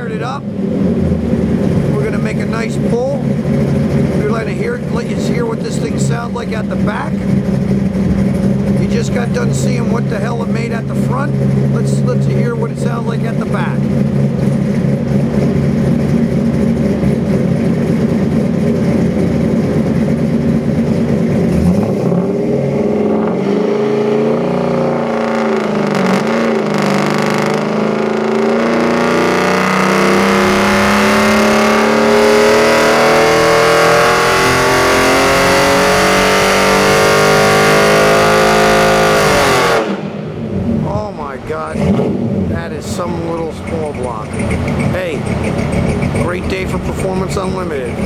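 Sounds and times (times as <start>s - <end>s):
vee eight engine revving: 0.0s - 48.0s.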